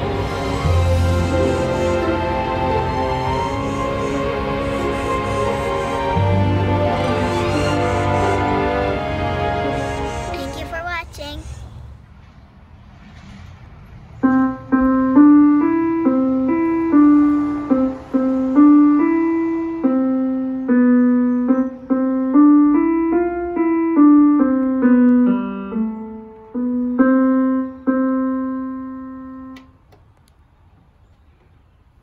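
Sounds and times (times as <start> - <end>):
electronic keyboard piano tune: 0.0 - 11.0, 14.2 - 29.8.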